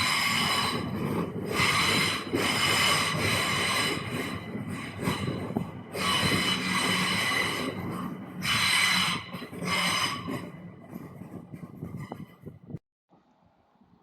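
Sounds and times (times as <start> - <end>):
metallic wheel squeal: 0.0 - 12.8
passing train: 0.0 - 12.8.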